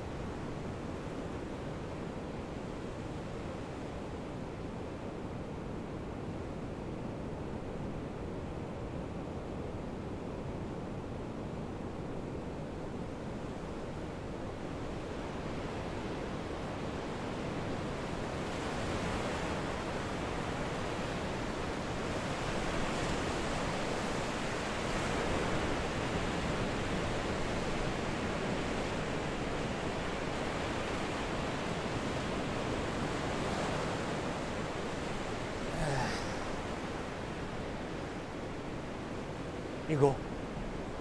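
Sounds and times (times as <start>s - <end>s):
ocean surf on a sandy beach: 0.0s - 41.0s.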